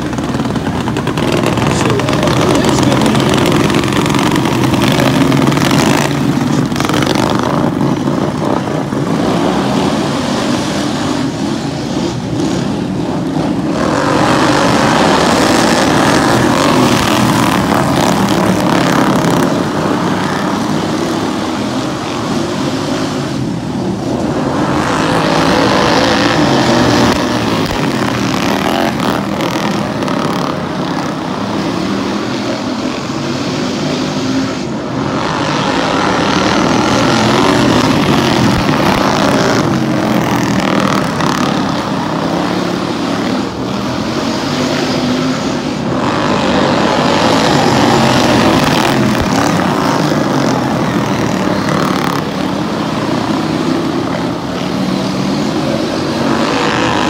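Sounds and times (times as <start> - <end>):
lawn mower engines racing: 0.0 - 57.0.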